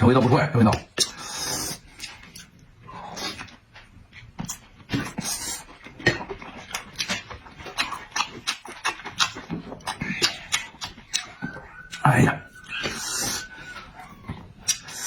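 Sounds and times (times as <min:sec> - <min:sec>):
wet chewing and lip-smacking: 0:00.9 - 0:15.0.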